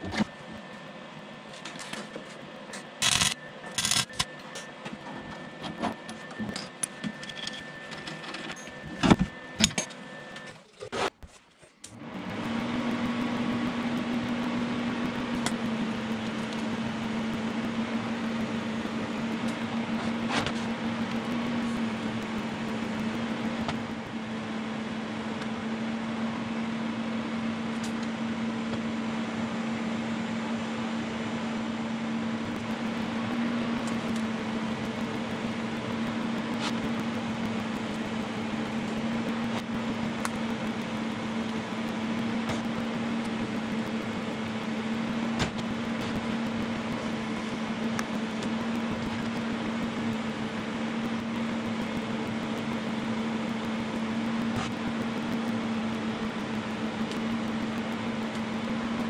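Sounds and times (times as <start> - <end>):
machine hum: 0.0 - 11.1, 11.8 - 59.0.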